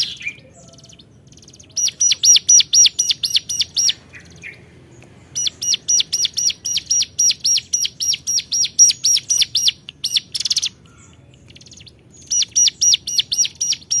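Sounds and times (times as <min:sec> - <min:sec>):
bird sharp chirps: 0:00.0 - 0:14.0.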